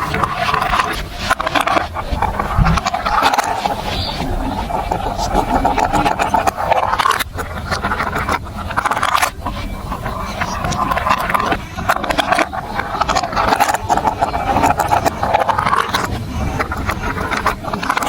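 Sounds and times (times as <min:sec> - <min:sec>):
marbles rolling on plastic track: 0:00.0 - 0:18.0.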